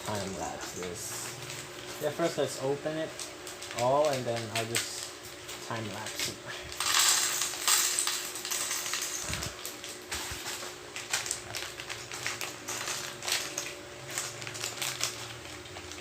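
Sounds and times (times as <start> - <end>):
crinkling plastic bags: 0.0 - 16.0.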